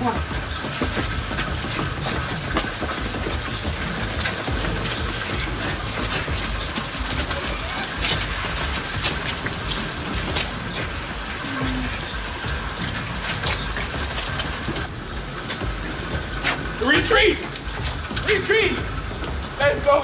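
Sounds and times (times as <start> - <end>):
heavy rain falling: 0.0 - 20.0
raindrops striking a car: 0.0 - 20.0.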